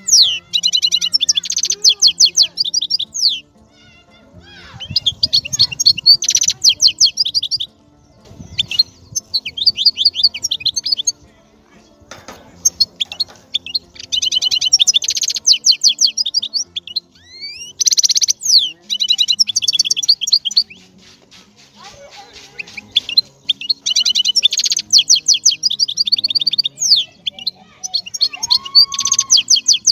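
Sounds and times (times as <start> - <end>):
finch twittering and trilling: 0.0 - 3.6, 4.3 - 29.9.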